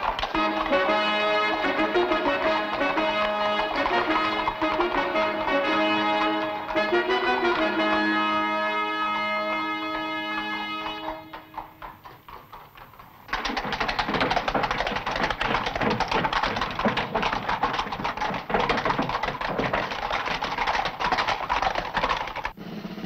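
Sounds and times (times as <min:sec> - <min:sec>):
hoofbeats on stone paving: 0:00.0 - 0:22.6.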